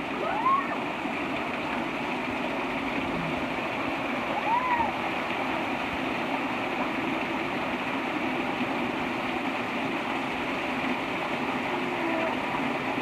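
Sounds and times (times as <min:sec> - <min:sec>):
water rushing over dam: 0:00.0 - 0:13.0.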